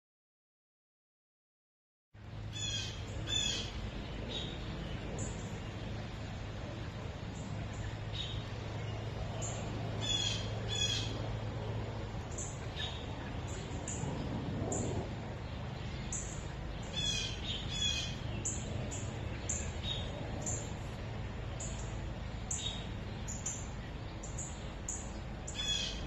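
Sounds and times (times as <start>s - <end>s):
small birds chirping: 2.2s - 26.0s.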